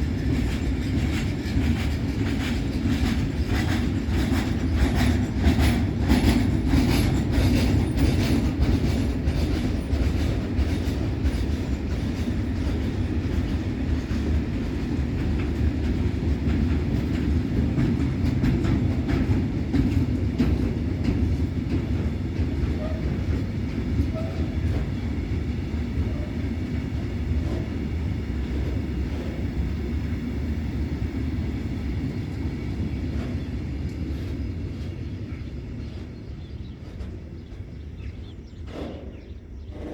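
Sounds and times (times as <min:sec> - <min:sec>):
freight train rumble: 0:00.0 - 0:39.9
train wheels clattering over rail joints: 0:00.0 - 0:39.9.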